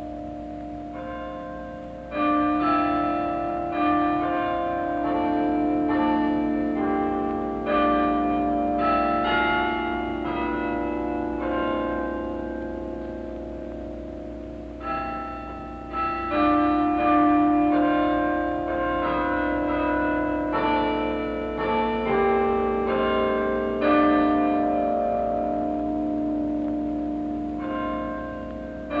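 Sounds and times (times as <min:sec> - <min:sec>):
tower bells chiming a melody: 0:00.0 - 0:29.0.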